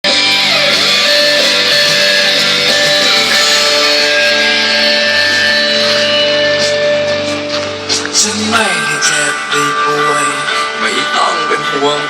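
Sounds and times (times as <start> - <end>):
loud guitar music on car stereo: 0.0 - 12.0.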